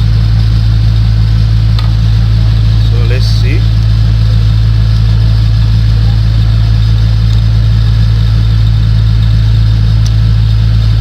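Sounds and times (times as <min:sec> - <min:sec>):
loud steady low hum: 0:00.0 - 0:11.0.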